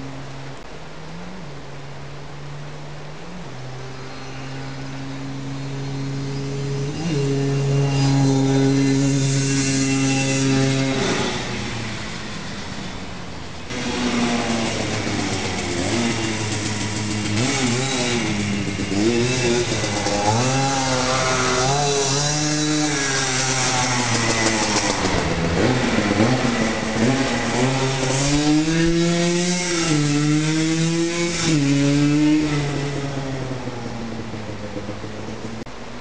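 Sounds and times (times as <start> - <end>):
two-stroke engine revving: 3.6 - 35.7.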